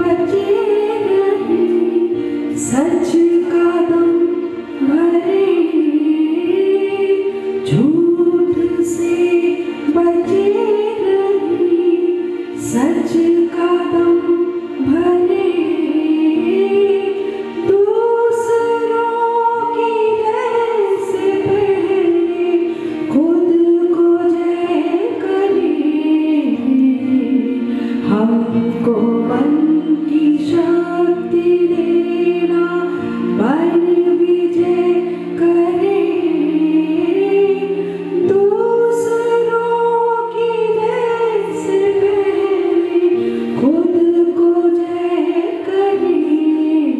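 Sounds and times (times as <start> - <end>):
girls singing through sound system: 0.0 - 46.9.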